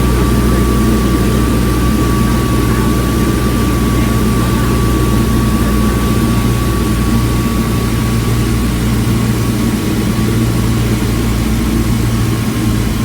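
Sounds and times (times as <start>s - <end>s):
airplane engine droning: 0.0s - 13.0s
high whine: 0.0s - 13.0s.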